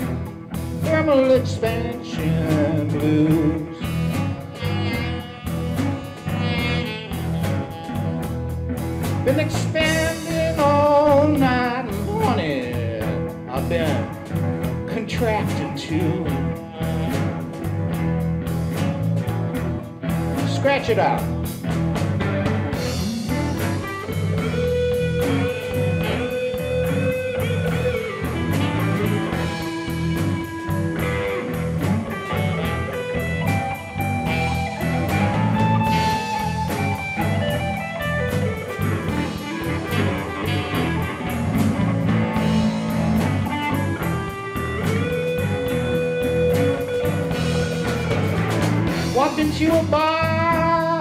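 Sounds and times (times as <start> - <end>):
blues guitar lead: 0.0 - 51.0
drum and bass groove: 0.0 - 51.0.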